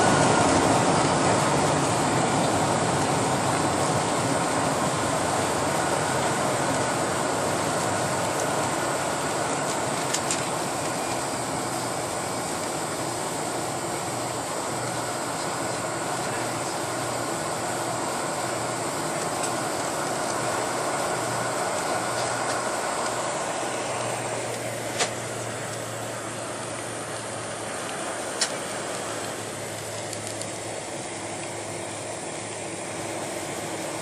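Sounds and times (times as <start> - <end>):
rolling landing gear rumble: 0.0 - 32.2
jet engines at low power: 0.0 - 34.0.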